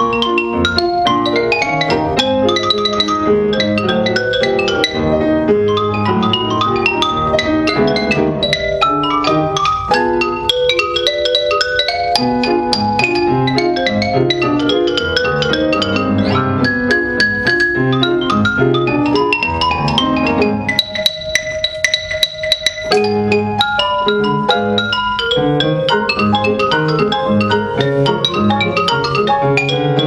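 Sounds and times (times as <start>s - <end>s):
grand piano accompaniment: 0.0s - 30.0s
xylophone playing ragtime melody: 0.0s - 30.0s.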